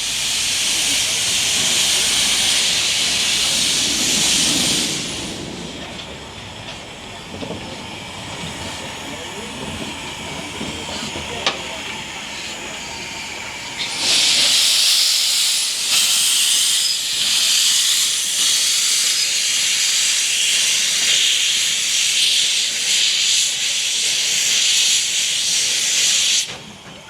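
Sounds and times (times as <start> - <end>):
steam locomotive hissing steam: 0.0 - 27.0.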